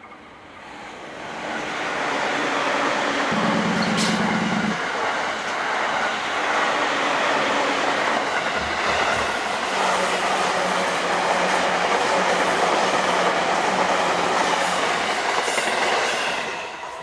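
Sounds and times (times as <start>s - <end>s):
electric train passing: 0.0s - 17.0s
wheels rushing on rail: 0.0s - 17.0s.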